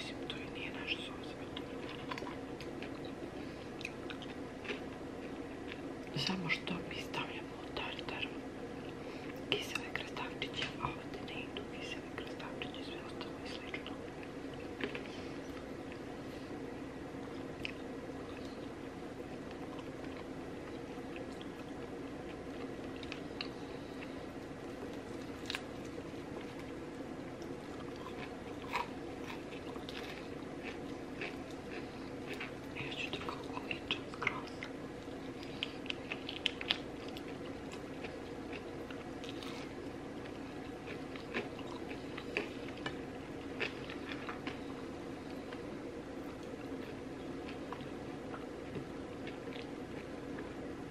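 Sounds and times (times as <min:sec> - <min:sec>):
steady low hum: 0:00.0 - 0:50.9
person chewing food: 0:01.4 - 0:05.9, 0:11.5 - 0:50.6.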